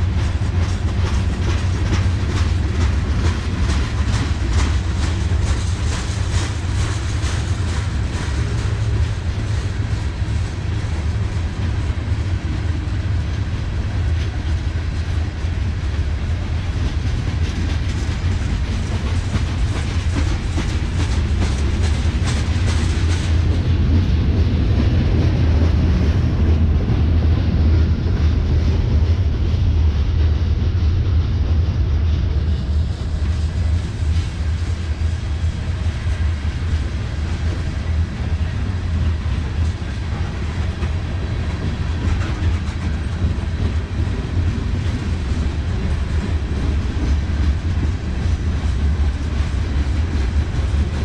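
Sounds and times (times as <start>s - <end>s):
freight train rumble: 0.0s - 51.0s
wheels clicking on rails: 0.0s - 51.0s.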